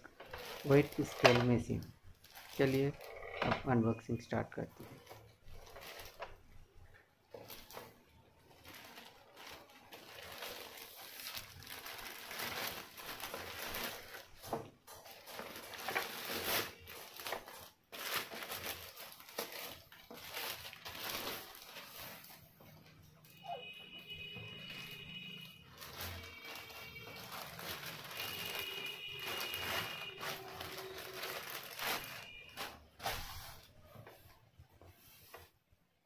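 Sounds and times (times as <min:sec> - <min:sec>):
plastic bag crinkling: 0:00.0 - 0:34.4.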